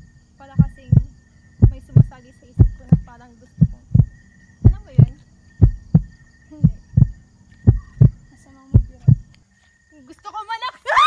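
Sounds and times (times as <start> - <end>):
heartbeat thumps: 0.0 - 9.3
faint steady hum: 0.0 - 11.0.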